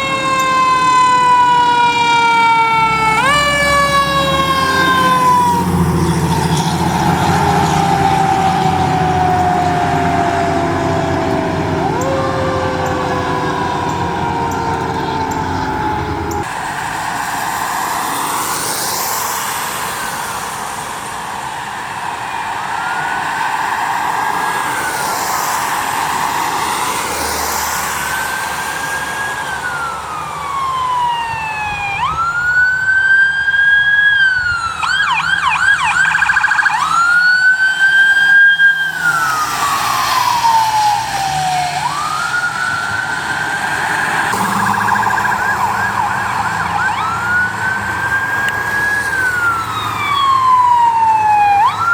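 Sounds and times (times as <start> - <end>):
electronic siren wailing: 0.0 - 16.5, 24.2 - 51.9.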